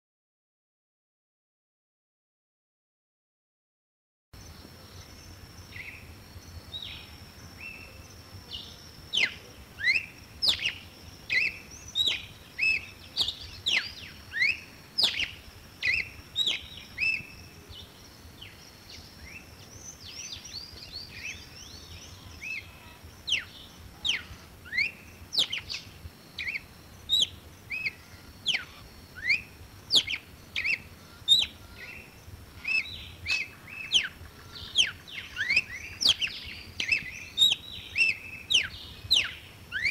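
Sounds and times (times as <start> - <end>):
bird singing whistled notes: 4.4 - 39.9.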